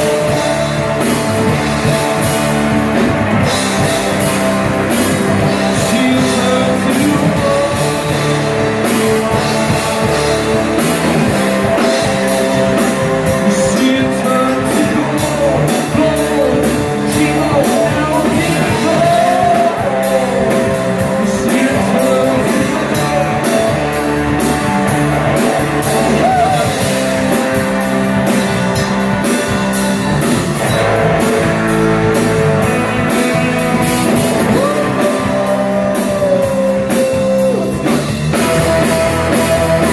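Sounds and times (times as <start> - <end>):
person singing: 0.0 - 27.8, 30.8 - 39.9
drum kit: 0.0 - 39.9
electric bass: 0.0 - 39.9
electric guitars: 0.0 - 39.9.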